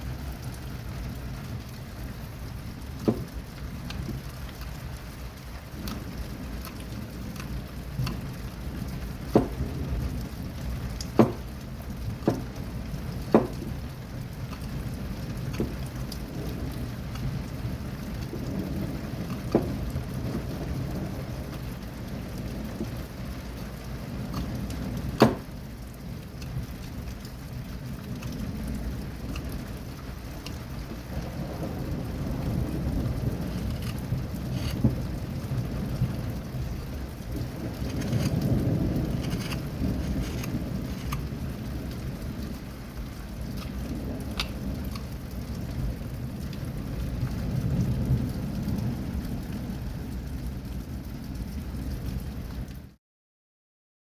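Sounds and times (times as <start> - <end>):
low rumbling thunder: 0.0 - 52.8
steady rain: 0.0 - 53.0.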